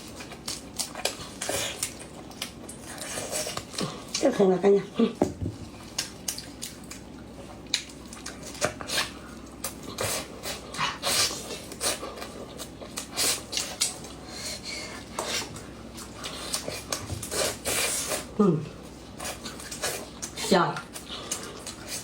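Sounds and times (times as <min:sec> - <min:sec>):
chewing crunchy fried food: 0:00.0 - 0:04.4, 0:05.6 - 0:22.0.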